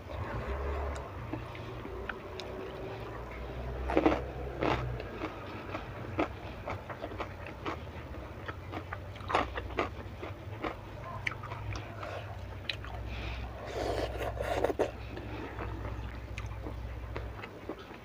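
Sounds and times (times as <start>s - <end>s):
person chewing with wet clicks: 0.9s - 18.0s.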